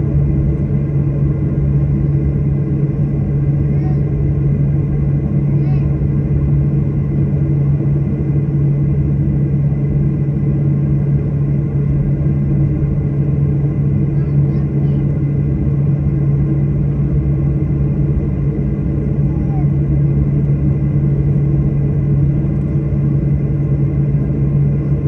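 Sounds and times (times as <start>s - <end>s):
jet engine cabin drone: 0.0s - 25.0s.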